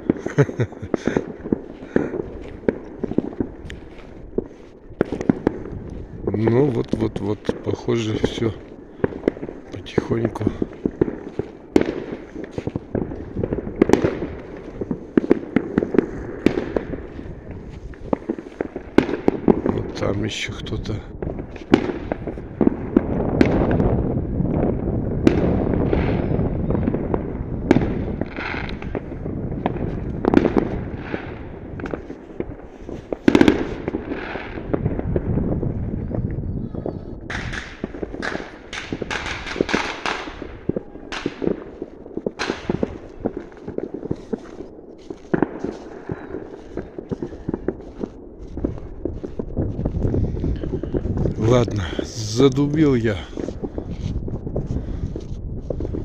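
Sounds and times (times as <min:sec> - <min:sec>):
fireworks bangs: 0:00.0 - 0:56.0
fireworks crackling pops: 0:00.0 - 0:56.0.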